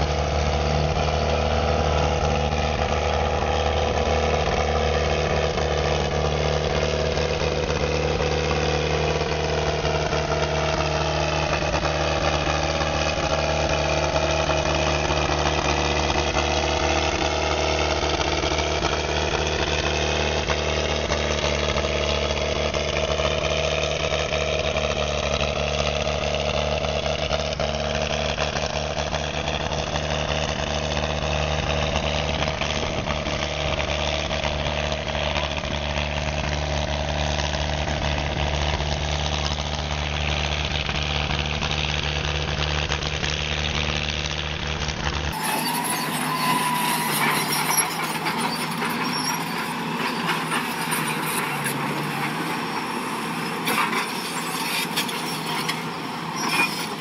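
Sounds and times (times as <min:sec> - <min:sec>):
motor grader engine running: 0:00.0 - 0:57.0.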